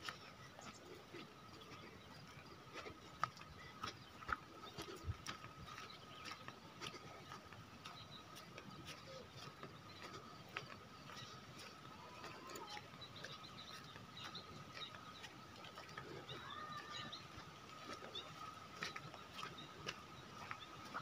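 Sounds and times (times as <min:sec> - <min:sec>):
faint footsteps on dirt path: 0:00.0 - 0:21.0.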